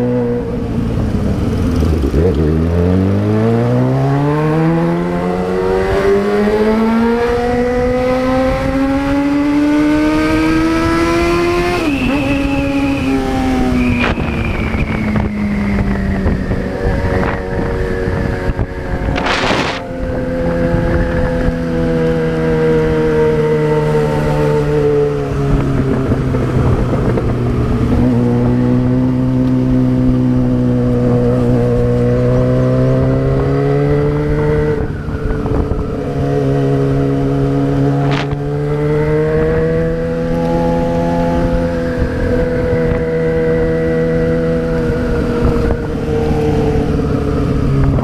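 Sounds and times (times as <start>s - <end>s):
motorcycle engine revving: 0.0s - 48.0s
wind and road rumble: 0.0s - 48.0s.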